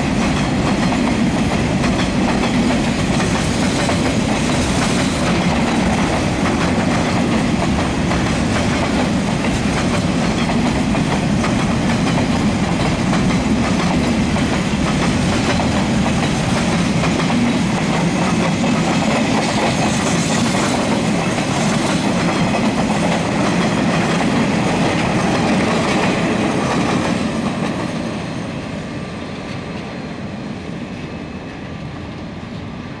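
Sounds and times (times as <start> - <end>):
train wagons rolling on rails: 0.0 - 33.0.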